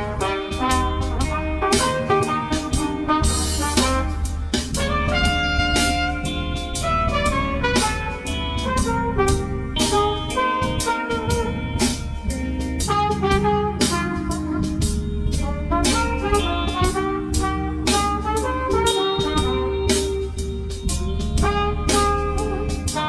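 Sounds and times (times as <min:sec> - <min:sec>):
jazz music with saxophone: 0:00.0 - 0:23.0.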